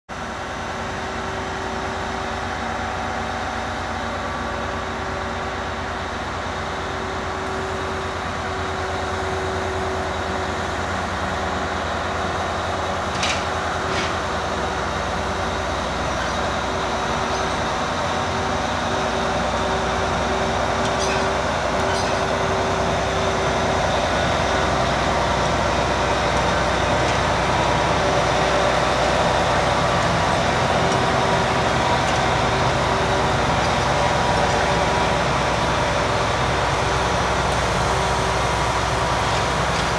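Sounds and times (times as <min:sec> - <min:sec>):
diesel engines droning: 0:00.1 - 0:39.9.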